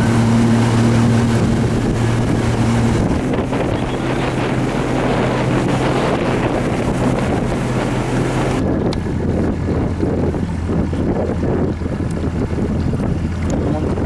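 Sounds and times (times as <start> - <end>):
motorboat engine humming: 0.0 - 14.0
wind buffeting microphone: 0.0 - 14.0.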